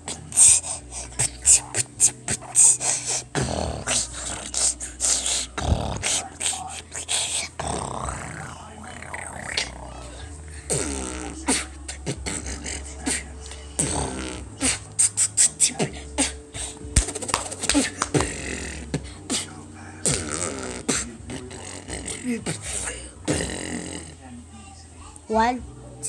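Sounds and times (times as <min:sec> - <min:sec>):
beatboxing: 0:00.0 - 0:09.8, 0:10.6 - 0:24.1.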